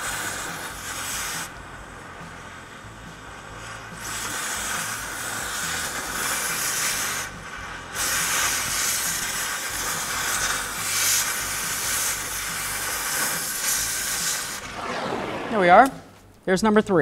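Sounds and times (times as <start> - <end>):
cutting torch hissing: 0.0 - 16.1.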